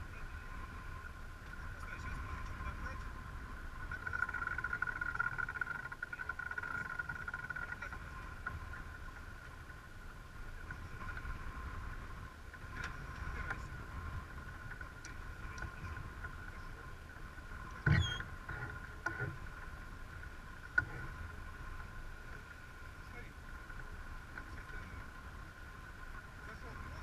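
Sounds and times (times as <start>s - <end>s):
steady high-pitched hum: 0.0s - 27.0s
water rushing along a hull: 0.0s - 27.0s
wind on deck: 0.0s - 27.0s.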